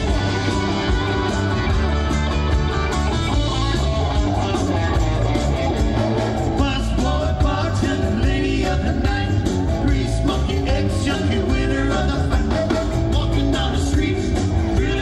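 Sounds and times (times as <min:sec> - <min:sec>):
electric guitar: 0:00.0 - 0:15.0
live rock band playing: 0:00.0 - 0:15.0.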